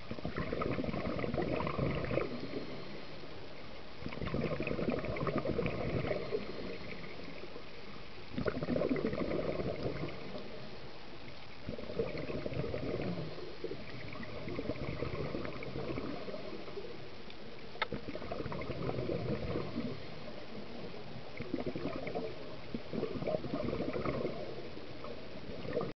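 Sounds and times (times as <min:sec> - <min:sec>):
exhaled bubbles gurgling: 0:00.0 - 0:26.0.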